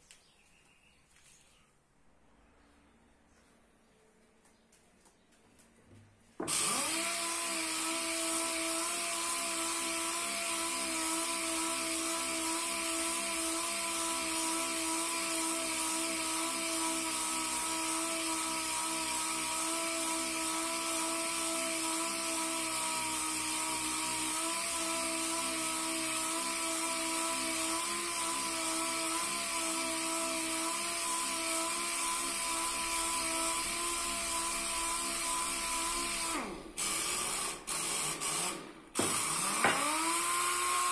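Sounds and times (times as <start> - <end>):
orbital sander sanding wood: 6.4 - 40.9.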